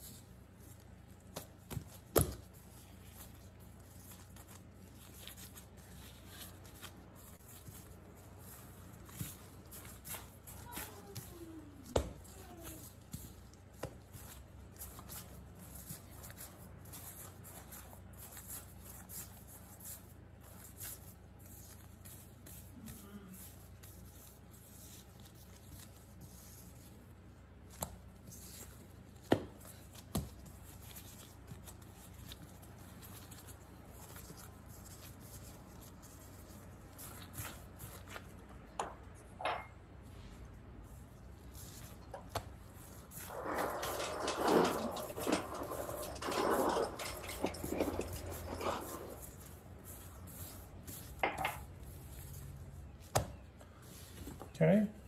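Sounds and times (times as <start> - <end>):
hands rolling dough on countertop: 0.0 - 54.6.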